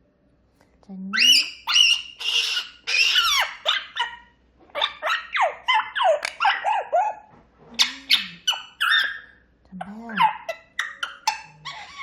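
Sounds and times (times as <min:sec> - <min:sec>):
parrot calling and squawking: 0:01.1 - 0:09.5, 0:10.1 - 0:12.0.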